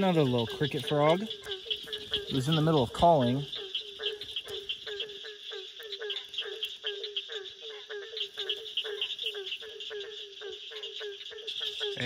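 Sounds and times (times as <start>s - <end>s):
frogs clicking rapidly: 0.0s - 12.0s
low frog calls: 0.0s - 12.0s.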